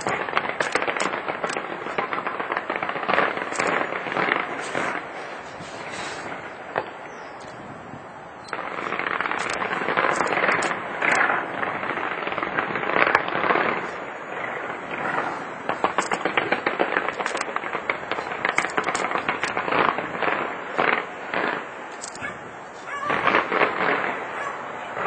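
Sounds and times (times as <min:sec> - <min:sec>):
sharp firework pops: 0:00.0 - 0:07.6, 0:08.4 - 0:24.6
fireworks bangs and crackling: 0:00.0 - 0:25.0.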